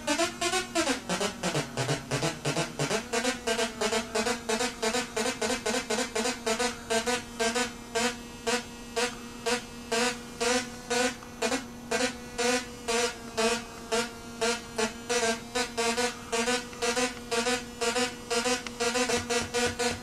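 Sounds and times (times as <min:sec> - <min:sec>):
buzzy synthesizer notes: 0:00.0 - 0:20.0
steady low synth drone: 0:00.0 - 0:20.0.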